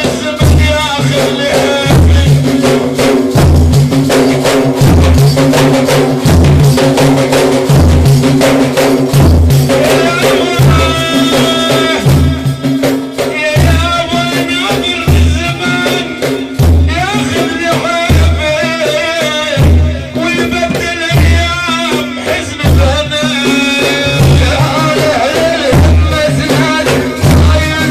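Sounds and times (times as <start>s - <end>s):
frame drums beaten in rhythm: 0.0s - 27.9s.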